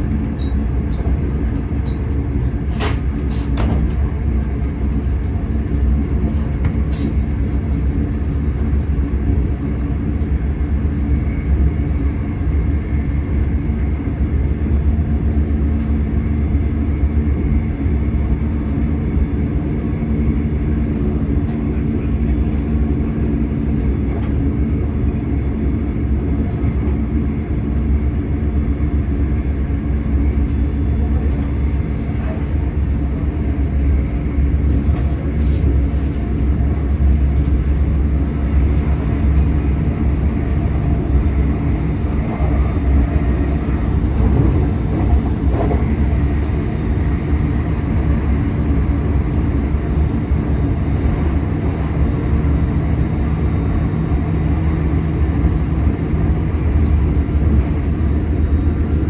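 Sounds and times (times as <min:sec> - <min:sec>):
train rumbling inside carriage: 0:00.0 - 0:59.0.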